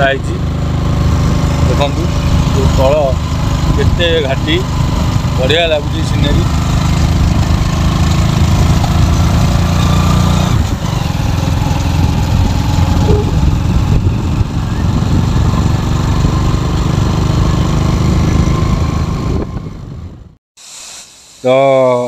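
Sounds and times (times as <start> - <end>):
vehicle engine running: 0.0 - 19.5.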